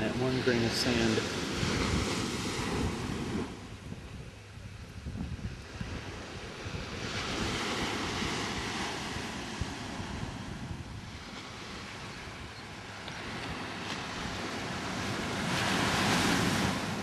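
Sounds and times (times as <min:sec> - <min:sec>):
ocean surf breaking on beach: 0:00.0 - 0:17.0
wind buffeting microphone: 0:00.0 - 0:17.0.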